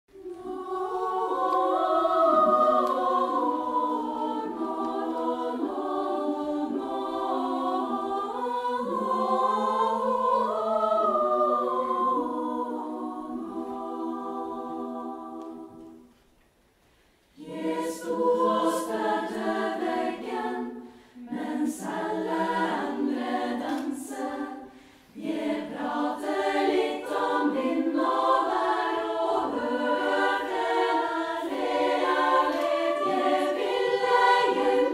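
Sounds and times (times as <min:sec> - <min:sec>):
female choir singing a cappella: 0:00.1 - 0:16.2, 0:17.3 - 0:34.9.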